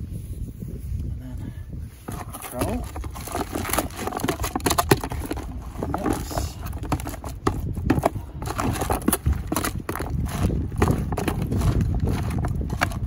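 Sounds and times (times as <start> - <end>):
bait mixed by hand in bucket: 2.0 - 13.0.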